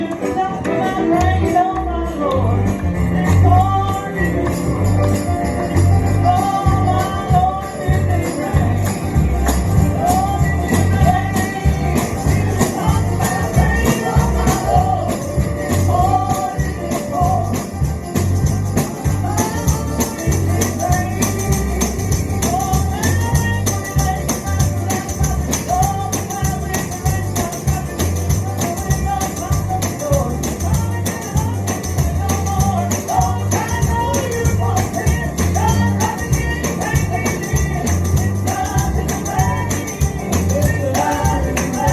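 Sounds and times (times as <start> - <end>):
tambourine shaken on the beat: 0.0 - 41.9
pulsing bass: 0.7 - 41.9
repeating melody line: 2.5 - 41.9.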